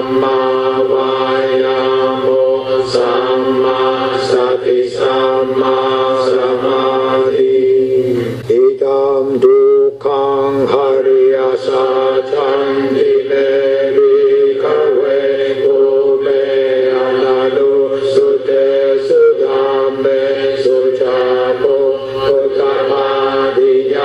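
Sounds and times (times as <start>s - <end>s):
person chanting: 0.0s - 24.0s.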